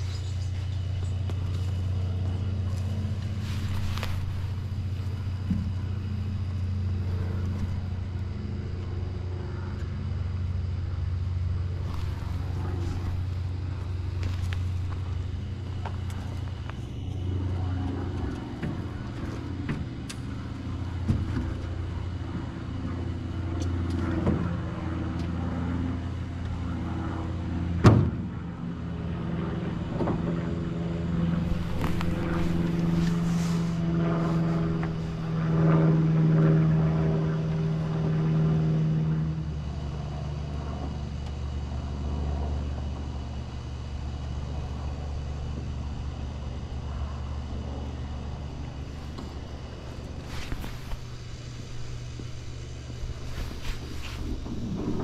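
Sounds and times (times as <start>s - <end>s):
motor humming: 0.0s - 55.0s.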